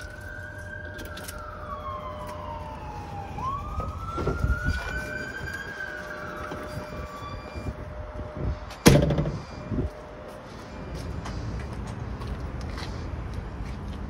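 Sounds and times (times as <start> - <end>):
emergency vehicle siren wailing: 0.0 - 11.6.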